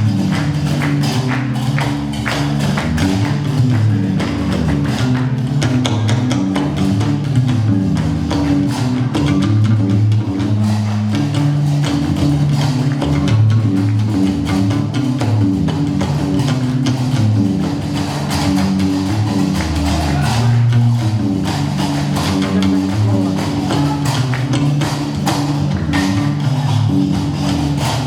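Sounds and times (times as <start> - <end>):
plucked bass lute: 0.0 - 28.0.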